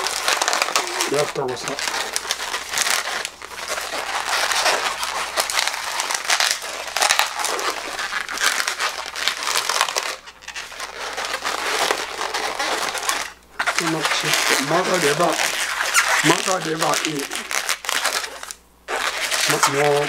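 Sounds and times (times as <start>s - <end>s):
latex balloon rubbing and creaking: 0.0s - 20.0s.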